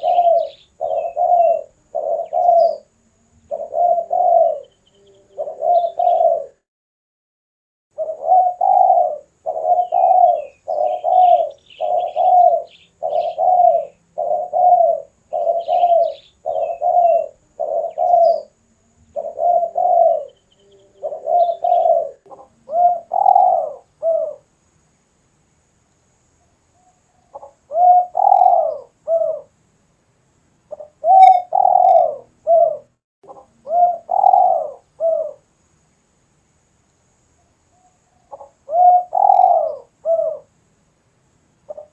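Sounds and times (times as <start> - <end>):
dove cooing: 0.0 - 6.6, 8.0 - 24.5, 26.8 - 29.6, 30.7 - 35.5, 37.8 - 40.5, 41.7 - 41.9
small bird chirping: 0.0 - 6.6, 8.0 - 24.5, 26.2 - 29.5, 30.7 - 35.5, 37.2 - 40.5, 41.6 - 41.9.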